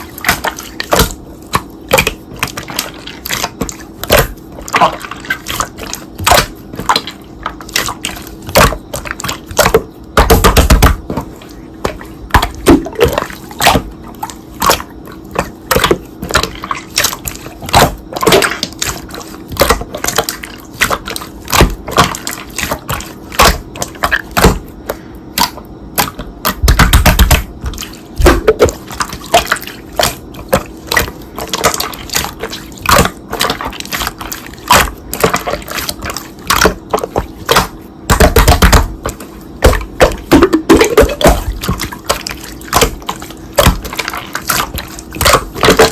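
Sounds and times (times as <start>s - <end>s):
slime squelching by hand: 0.0s - 45.9s.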